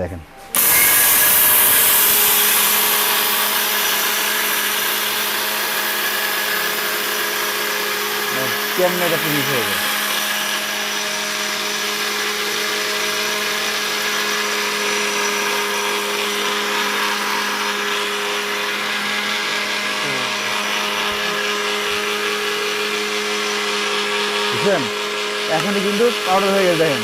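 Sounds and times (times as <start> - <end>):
mixer grinder grinding rice: 0.5 - 27.0.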